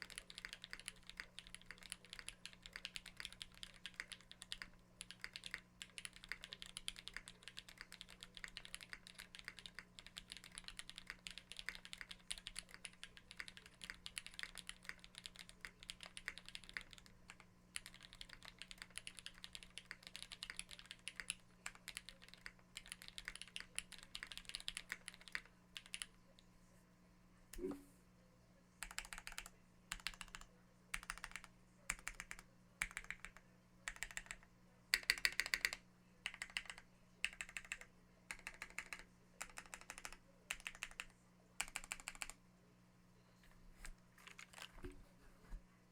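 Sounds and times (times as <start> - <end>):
mechanical keyboard typing: 0.0 - 26.1, 28.8 - 42.4, 44.2 - 44.8.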